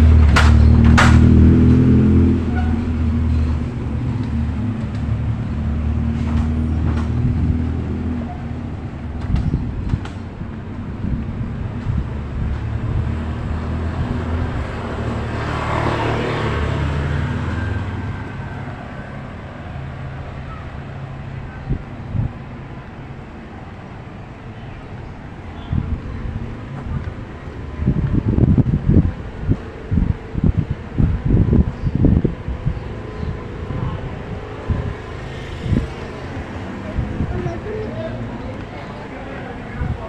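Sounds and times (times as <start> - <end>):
motorcycle passing: 0.0 - 9.8, 10.8 - 40.0
low engine rumble: 0.0 - 40.0
van engine pulling away: 0.0 - 40.0.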